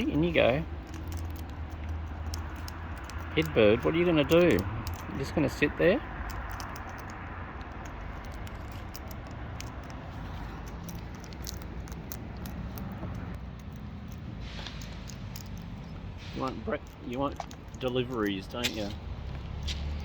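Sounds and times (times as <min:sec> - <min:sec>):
parrots cracking seeds: 0:00.0 - 0:20.0.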